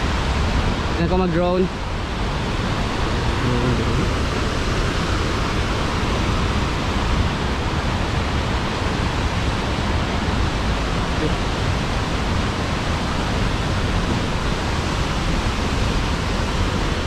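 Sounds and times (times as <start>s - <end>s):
water cascading over rocks: 0.0s - 17.0s
waterfall rushing: 0.0s - 17.0s.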